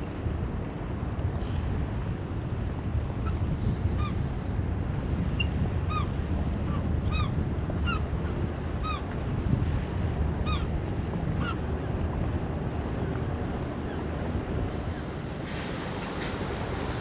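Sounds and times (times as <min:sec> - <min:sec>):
water: 0:00.0 - 0:14.7.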